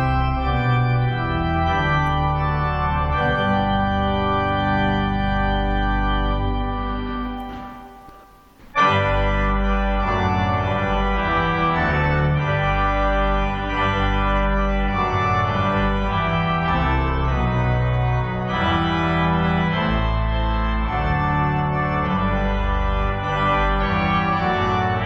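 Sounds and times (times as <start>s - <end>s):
organ playing chords: 0.0s - 25.0s.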